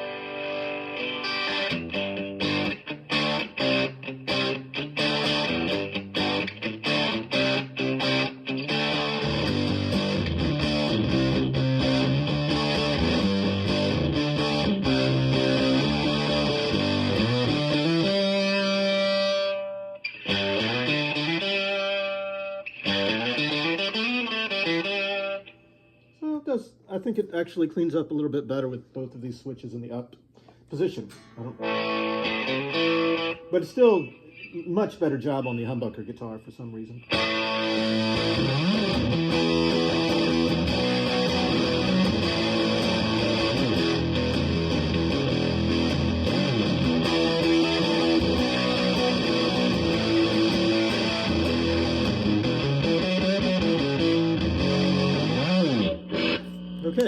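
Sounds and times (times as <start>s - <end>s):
distorted fuzz electric guitar: 0.0s - 25.6s, 31.5s - 34.8s, 37.0s - 57.0s.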